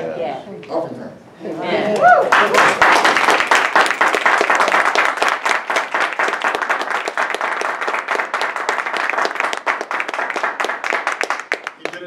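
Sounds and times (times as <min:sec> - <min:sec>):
crowd clapping: 0:02.2 - 0:12.0.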